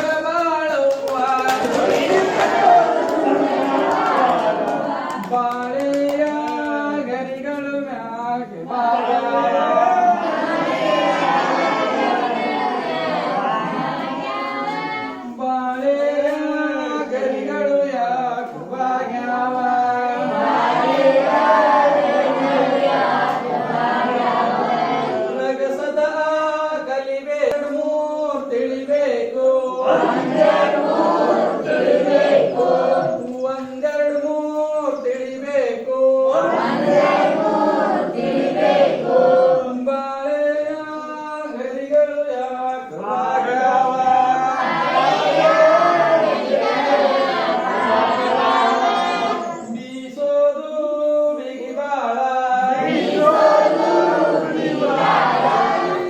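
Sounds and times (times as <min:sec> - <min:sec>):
group singing unaccompanied: 0:00.0 - 0:56.0.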